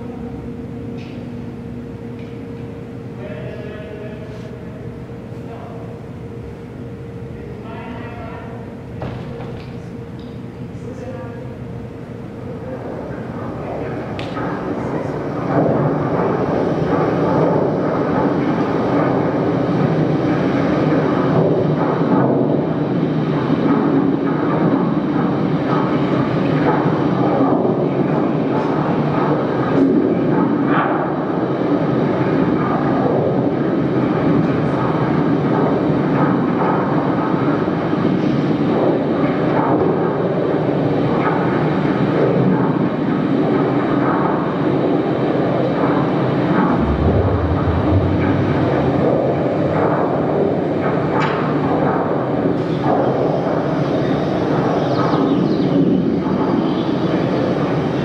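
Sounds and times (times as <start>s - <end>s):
dense roaring noise over speakers: 0.0s - 58.0s.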